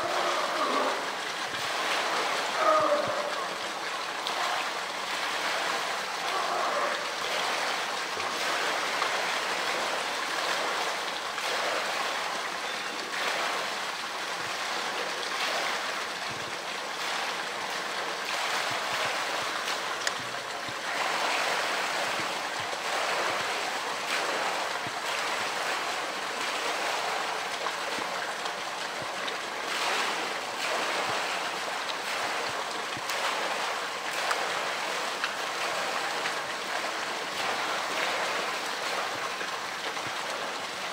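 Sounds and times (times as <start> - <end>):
water rushing in pool: 0.0 - 40.9.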